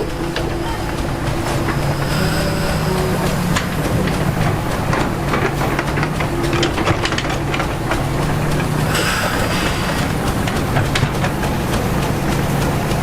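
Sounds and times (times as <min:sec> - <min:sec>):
diesel engine running: 0:00.0 - 0:13.0
metallic clicks and clanks: 0:00.0 - 0:13.0.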